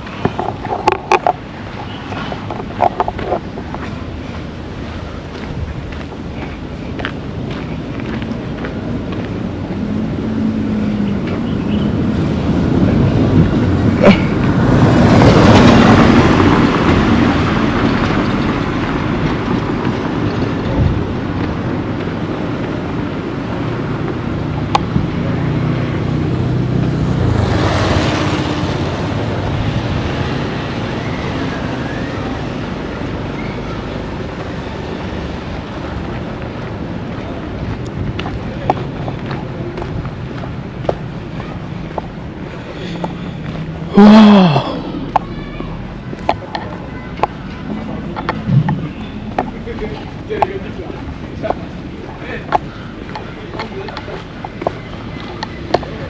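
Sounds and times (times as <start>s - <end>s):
large vehicle engines running: 0.0s - 56.0s.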